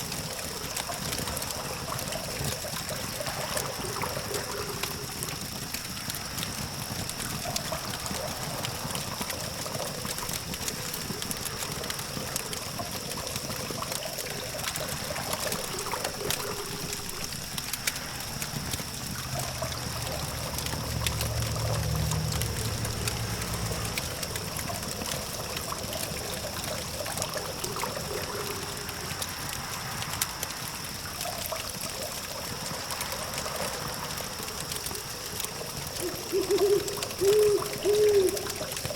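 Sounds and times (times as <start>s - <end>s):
campfire crackling and popping: 0.0s - 38.9s
distant traffic hum: 0.0s - 38.9s.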